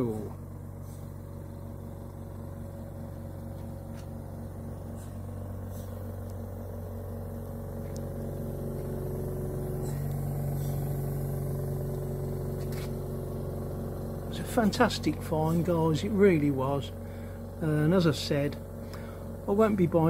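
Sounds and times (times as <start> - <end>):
compressor humming: 0.0 - 20.0.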